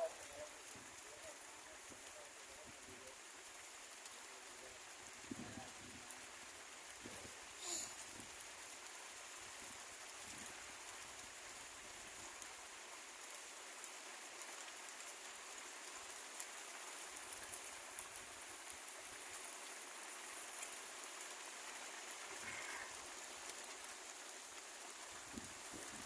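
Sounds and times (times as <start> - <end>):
raindrop ticks: 0.0 - 26.0
steady rain hiss: 0.0 - 26.0.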